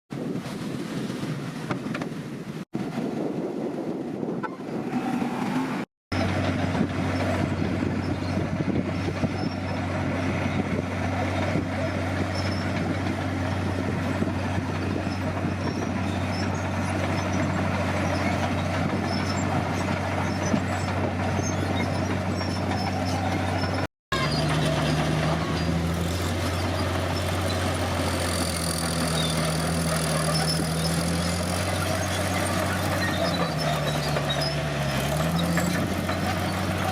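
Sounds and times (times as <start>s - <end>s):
bulldozer diesel engine running: 3.7s - 36.9s.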